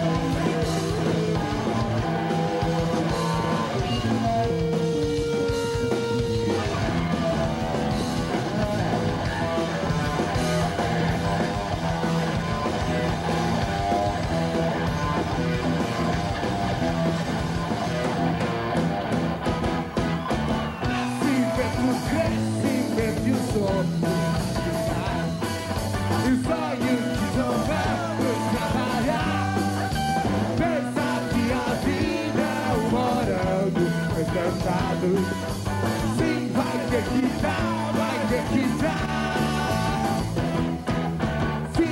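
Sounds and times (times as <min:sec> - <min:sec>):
electric guitar lead line: 0:00.0 - 0:41.9
live rock band playing: 0:00.0 - 0:41.9.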